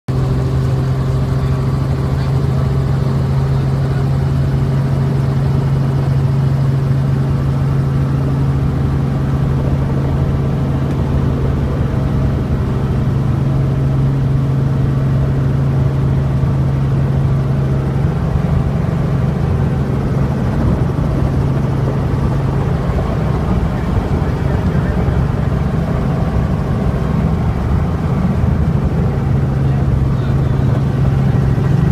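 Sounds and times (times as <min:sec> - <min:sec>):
helicopter engine and rotor drone: 0:00.1 - 0:31.9.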